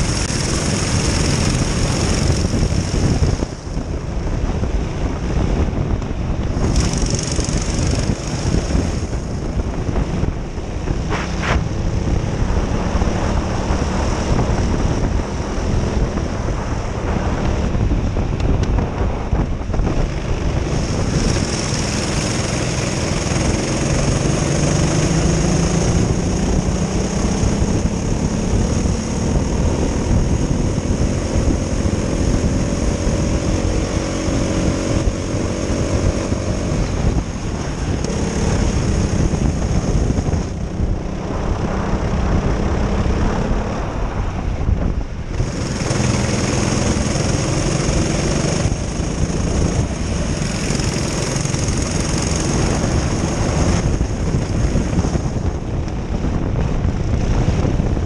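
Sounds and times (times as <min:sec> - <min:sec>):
racing kart engines running hard: 0:00.0 - 0:58.0
wind rushing over microphone: 0:00.0 - 0:58.0.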